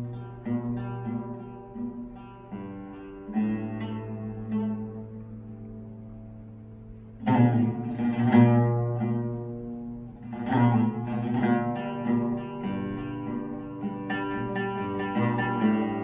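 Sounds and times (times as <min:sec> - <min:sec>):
oud plucked melody: 0:00.0 - 0:16.0.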